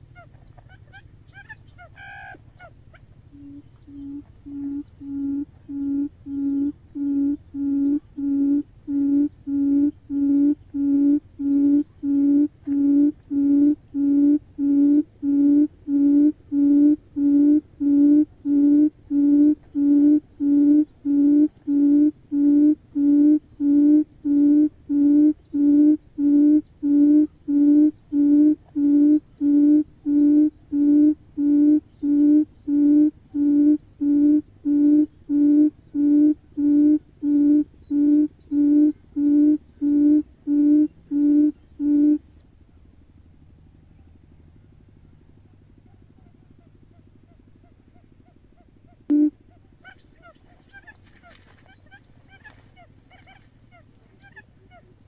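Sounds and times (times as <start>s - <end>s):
bird low booming hoots: 0.0s - 42.6s, 44.8s - 55.0s.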